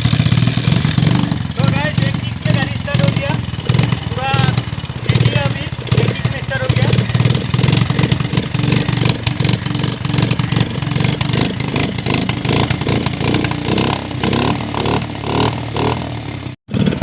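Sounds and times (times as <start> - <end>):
motorcycle engine running unevenly: 0.0 - 17.0.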